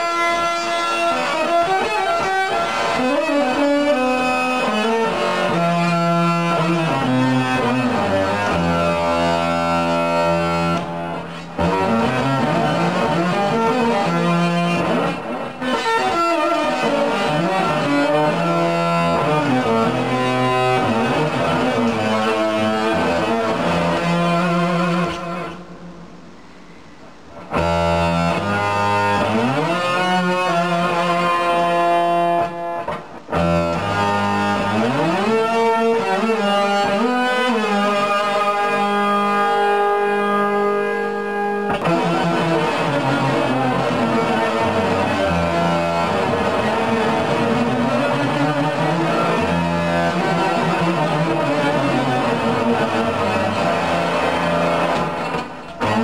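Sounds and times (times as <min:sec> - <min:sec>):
electric guitar solo runs: 0:00.0 - 0:25.6, 0:27.4 - 0:56.0
low held guitar notes: 0:00.0 - 0:26.2, 0:27.4 - 0:56.0.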